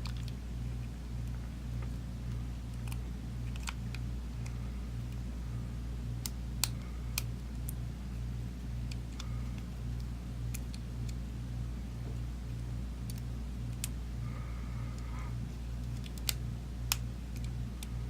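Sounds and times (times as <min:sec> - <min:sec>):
steady low pulsing hum: 0:00.0 - 0:18.0.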